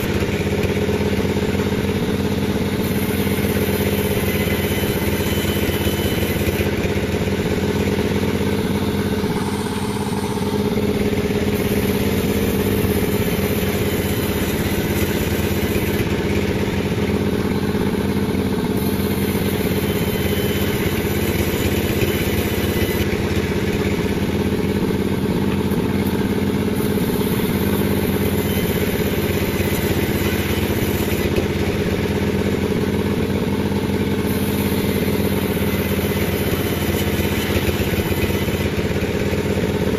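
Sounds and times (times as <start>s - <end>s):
sawmill motor running: 0.0s - 39.9s.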